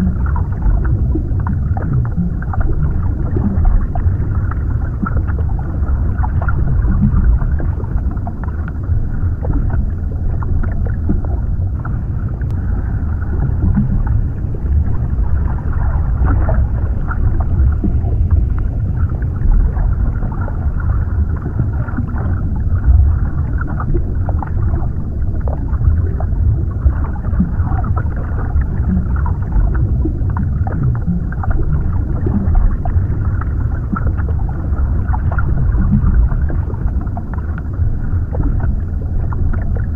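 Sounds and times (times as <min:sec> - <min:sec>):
deep muffled underwater rumble: 0:00.0 - 0:39.9
faint bubbling and gurgling: 0:00.0 - 0:39.9.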